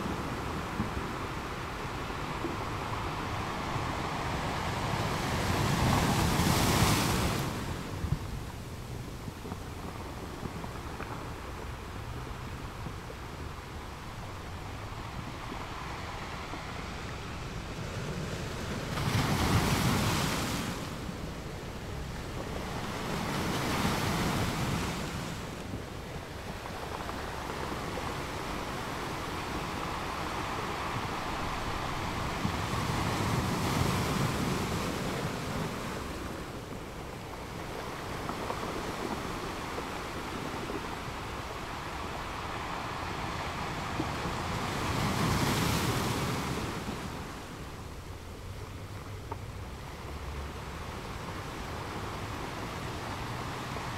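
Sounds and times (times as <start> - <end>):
waves crashing on rocks: 0.0 - 53.9.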